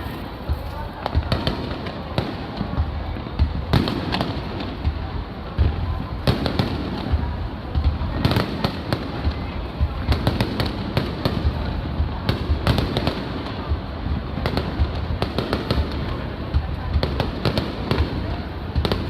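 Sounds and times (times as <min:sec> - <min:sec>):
fireworks deep booming: 0:00.0 - 0:19.0
fireworks sharp bangs and crackles: 0:00.0 - 0:19.0.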